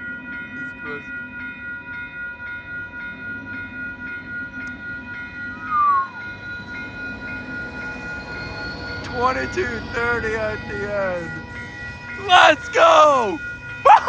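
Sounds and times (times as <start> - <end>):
railway crossing bell ringing: 0.0 - 14.0.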